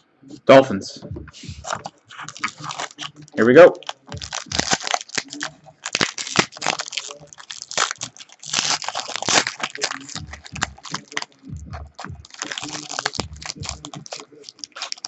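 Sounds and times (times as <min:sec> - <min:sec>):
cards rustling as handled: 0:01.6 - 0:15.0
card pack wrapper crinkling and tearing: 0:01.7 - 0:03.2, 0:03.8 - 0:15.0.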